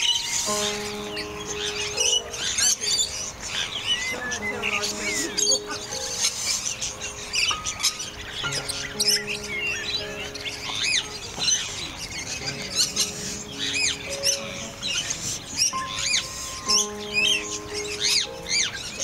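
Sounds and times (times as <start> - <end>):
sharp bird calls: 0.0 - 19.0
soft background music: 0.0 - 19.0.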